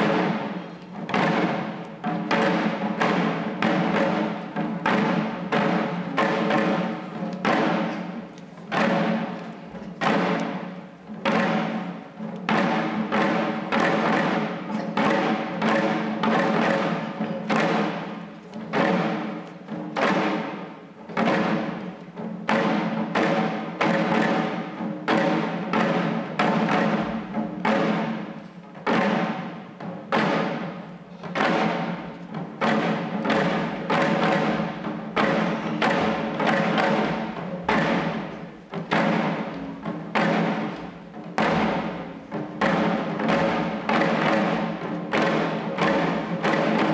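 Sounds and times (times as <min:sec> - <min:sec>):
drums beating steady rhythm: 0:00.0 - 0:46.9.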